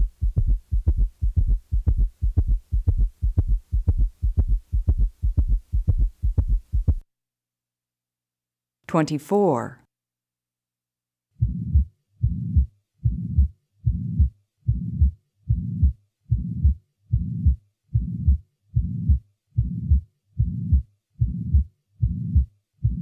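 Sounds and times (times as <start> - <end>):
low heart murmur: 0.0 - 7.0, 11.4 - 23.0
sharp heart sounds: 0.0 - 7.0, 11.4 - 23.0.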